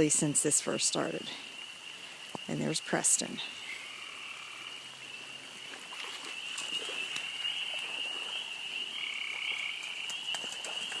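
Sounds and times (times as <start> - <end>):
frogs trilling: 0.0 - 11.0.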